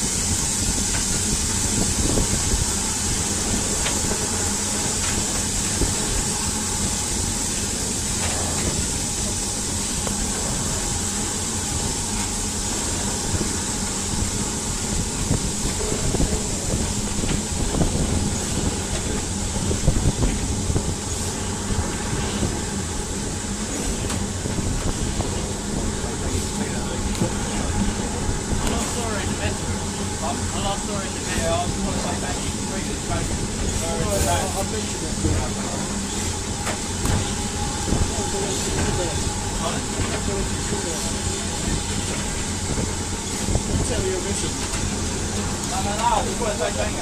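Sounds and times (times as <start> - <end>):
steam hiss: 0.0 - 47.0
wheels rumbling on rails: 0.0 - 47.0.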